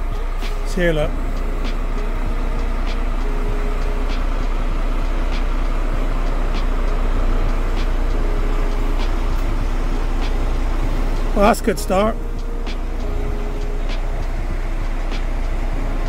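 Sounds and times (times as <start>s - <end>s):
lorry engine idling: 0.0s - 16.0s.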